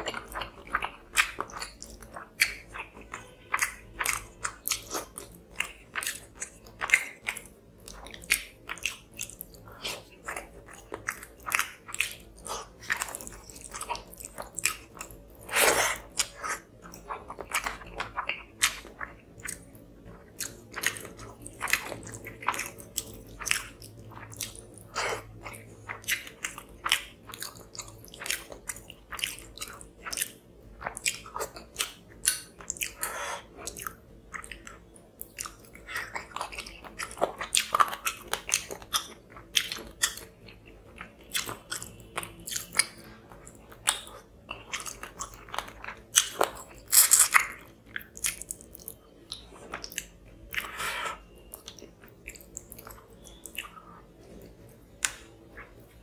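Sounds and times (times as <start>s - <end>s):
chewing food: 0.0s - 56.0s.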